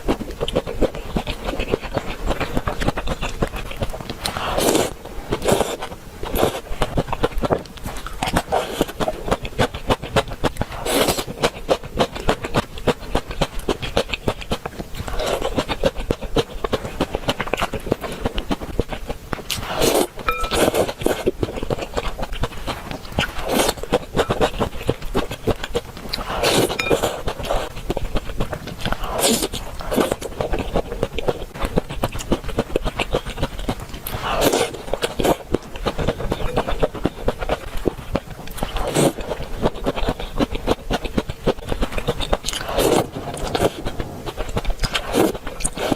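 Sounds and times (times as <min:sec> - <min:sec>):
person chewing food: 0:00.0 - 0:45.9.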